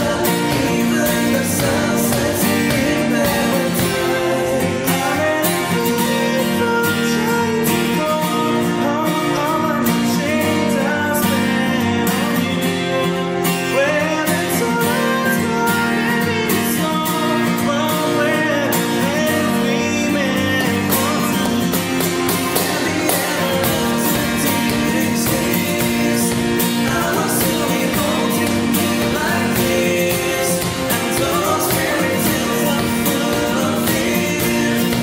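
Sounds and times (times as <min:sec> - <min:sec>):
acoustic guitars strumming: 0:00.0 - 0:35.0
man singing: 0:00.0 - 0:35.0.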